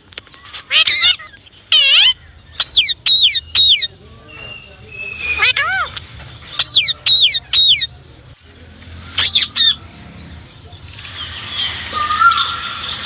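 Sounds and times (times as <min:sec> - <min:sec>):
parakeet chatter and whistle: 0:00.0 - 0:13.0
parakeet squawking: 0:00.0 - 0:13.0.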